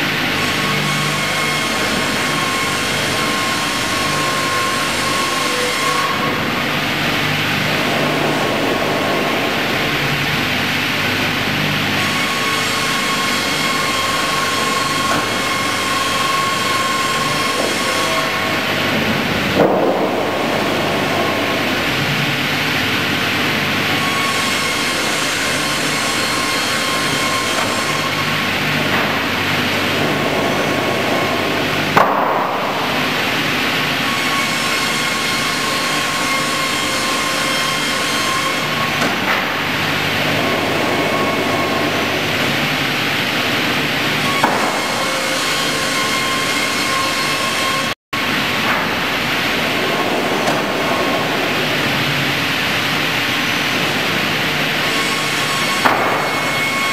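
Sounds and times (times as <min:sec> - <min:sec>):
circular sawmill whining: 0:00.0 - 0:56.9.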